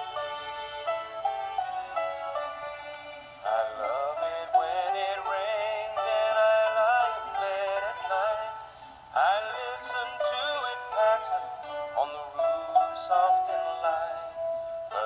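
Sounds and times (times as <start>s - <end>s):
backing music: 0.0s - 15.0s
man singing: 1.9s - 15.0s.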